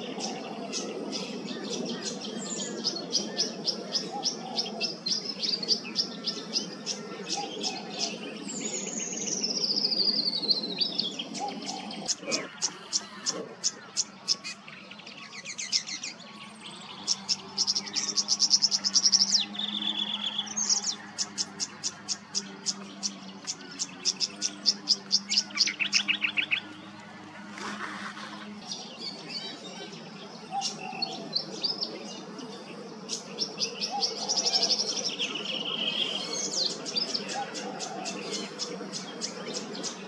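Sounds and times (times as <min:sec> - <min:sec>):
bird song with descending trill: 0:00.0 - 0:40.0.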